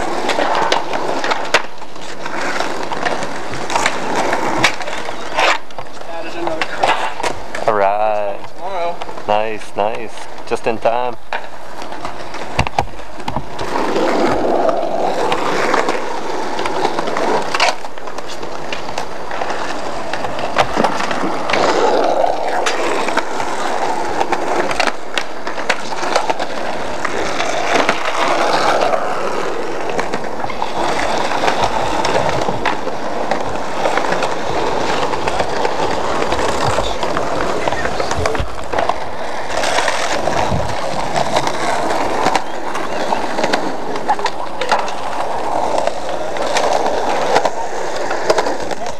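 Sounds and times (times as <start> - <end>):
skateboard clacking: 0.0 - 48.9
skateboard wheels rolling on concrete: 0.0 - 48.9.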